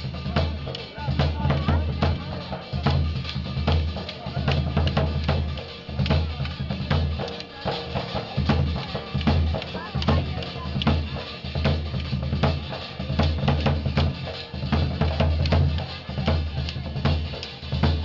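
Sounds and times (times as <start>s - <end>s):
folk music: 0.0s - 18.0s
hand drum beat: 0.0s - 18.0s.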